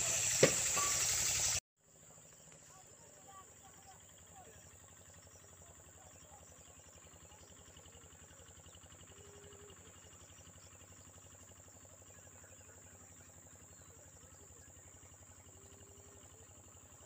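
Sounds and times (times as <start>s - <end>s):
faint insect chirring: 0.1s - 17.0s.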